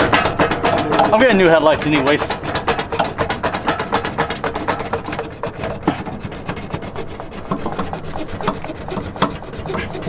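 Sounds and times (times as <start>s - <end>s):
saw cutting metal: 0.0s - 10.0s.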